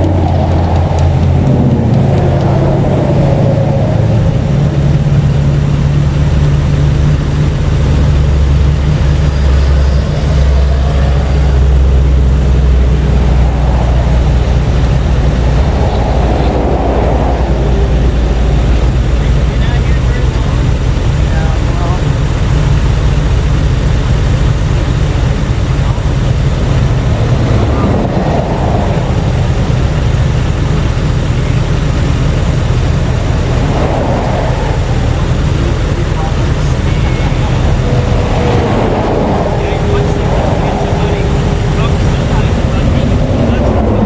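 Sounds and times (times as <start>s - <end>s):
low vehicle rumble: 0.0s - 44.0s.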